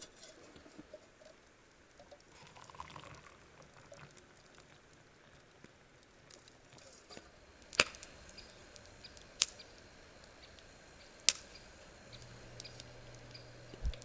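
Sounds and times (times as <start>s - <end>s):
campfire wood crackling: 0.0s - 14.0s.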